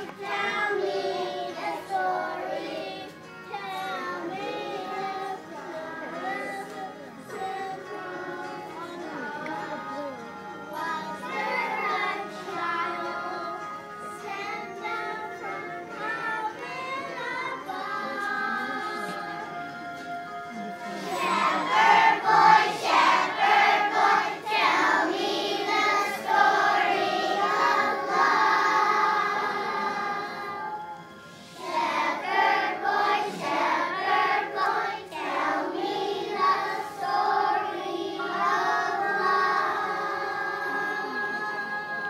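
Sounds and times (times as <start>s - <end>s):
children's choir singing: 0.0s - 42.0s.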